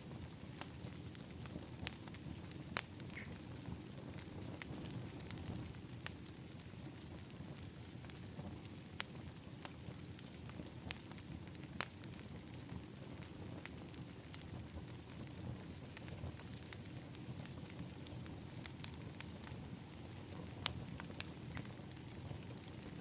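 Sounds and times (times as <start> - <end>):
low rushing of fire: 0.0 - 23.0
wood fire crackling and popping: 0.0 - 23.0.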